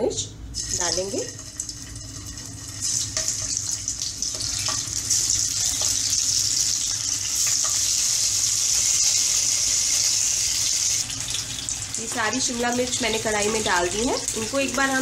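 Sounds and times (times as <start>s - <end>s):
peppers sizzling in hot oil: 0.6s - 15.0s.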